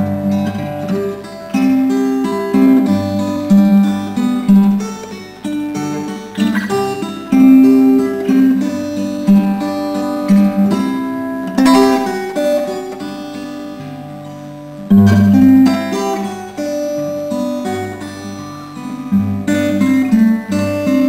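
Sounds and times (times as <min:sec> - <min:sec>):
acoustic guitar picking and strumming: 0:00.0 - 0:21.0.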